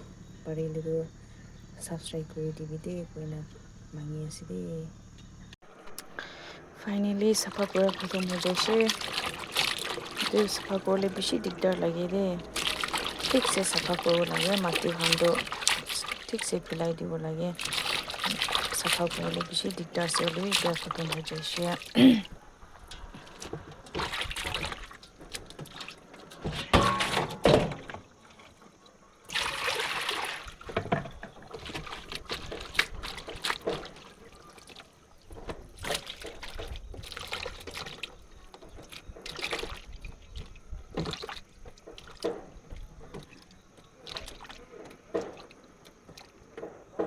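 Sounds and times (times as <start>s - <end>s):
water pouring and sloshing: 5.6s - 47.0s.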